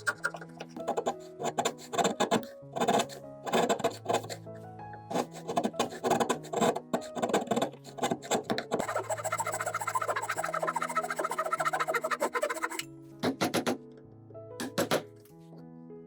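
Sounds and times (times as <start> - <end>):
hand tools scraping wood: 0.0 - 4.4, 5.1 - 13.7
plucked-string background music: 0.0 - 15.8.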